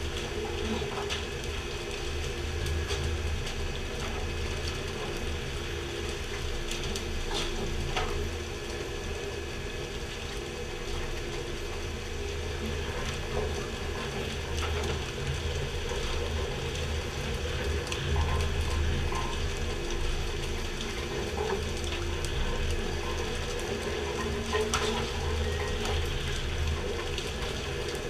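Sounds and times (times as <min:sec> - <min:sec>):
boat machinery humming and rattling: 0:00.0 - 0:28.0
water spraying along hull: 0:00.0 - 0:28.0.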